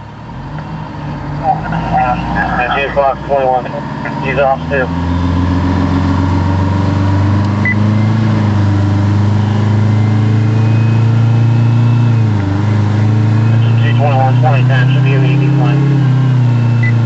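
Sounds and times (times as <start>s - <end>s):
fire engine running from cab: 0.0s - 17.0s.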